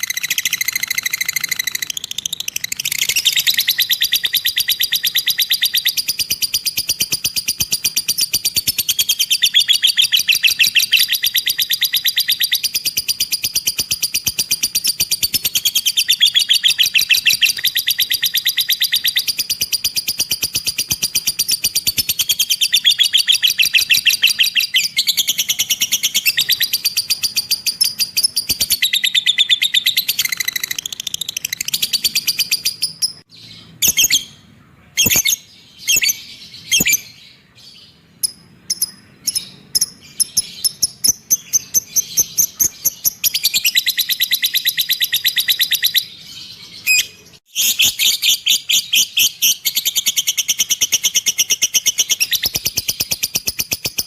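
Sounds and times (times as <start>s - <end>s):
lovebird chattering: 0.0s - 34.4s, 38.2s - 54.0s.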